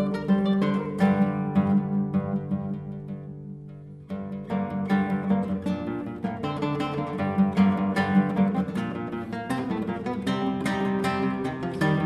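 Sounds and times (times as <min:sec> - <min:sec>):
classical guitar fingerpicking: 0:00.0 - 0:12.0.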